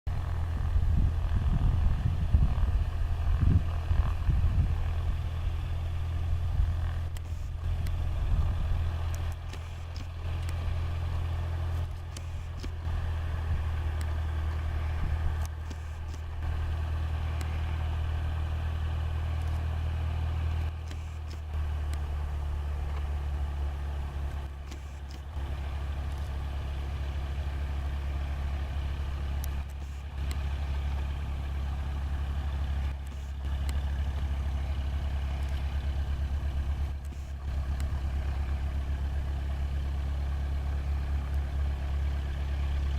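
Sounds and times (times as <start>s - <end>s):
light aircraft engine drone: 0.1s - 42.9s.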